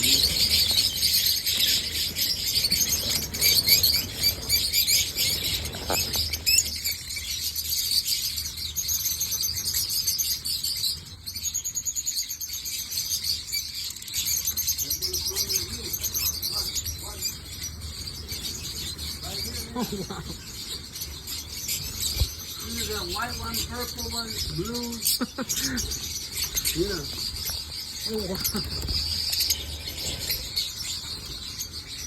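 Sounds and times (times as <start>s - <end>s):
lovebirds chirping: 0.0s - 32.0s.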